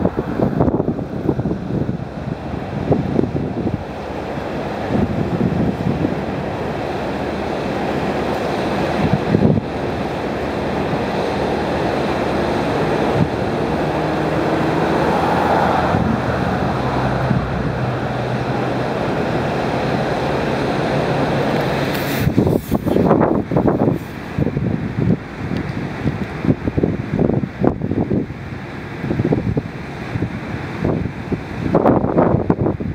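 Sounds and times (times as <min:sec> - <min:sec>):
wind on microphone: 0:00.0 - 0:32.9.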